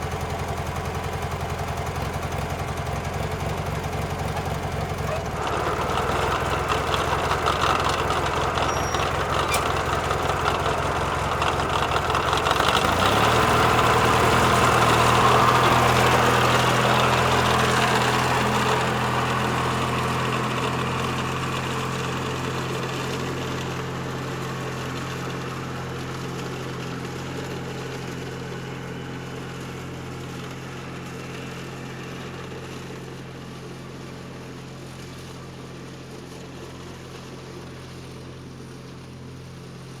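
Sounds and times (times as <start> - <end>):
lawn mower engine running: 0.0 - 40.0.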